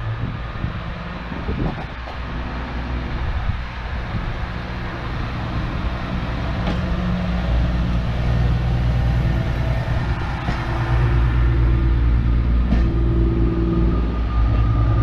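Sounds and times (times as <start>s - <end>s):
diesel train engine drone: 0.0s - 15.0s.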